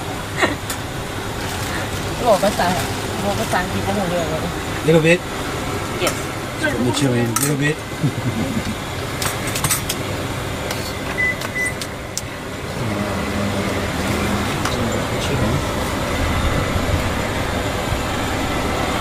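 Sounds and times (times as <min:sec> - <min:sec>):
traffic and street noise: 0:00.0 - 0:19.0.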